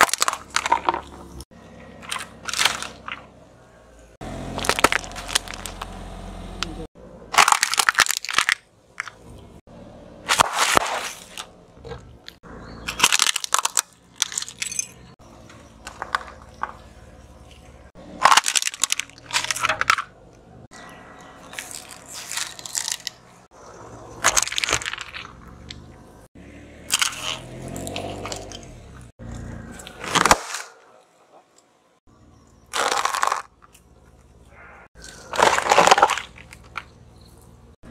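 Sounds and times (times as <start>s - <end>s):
car tyre crushing plastic toys: 0.0s - 3.4s, 4.4s - 6.7s, 7.3s - 9.6s, 10.2s - 20.5s, 21.2s - 25.9s, 26.9s - 31.0s, 32.5s - 37.9s.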